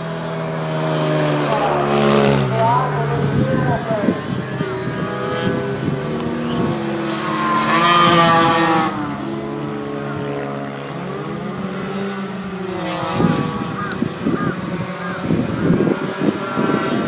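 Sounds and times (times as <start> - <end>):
motorcycle passing close: 0.0 - 17.0
racing motorcycle engines: 0.0 - 17.0.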